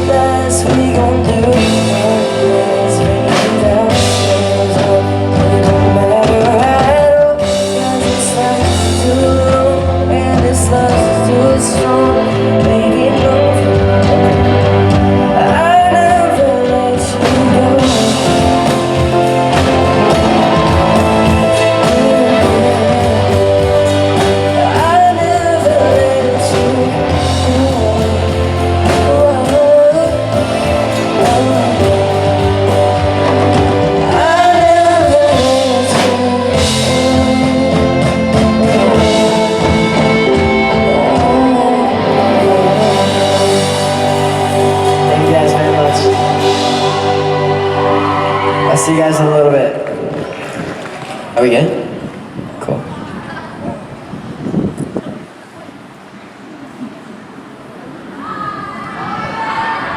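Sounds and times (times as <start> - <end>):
person singing: 0.0 - 49.1
bass notes: 0.0 - 52.1
guitar: 0.0 - 52.5
drums: 0.0 - 59.9.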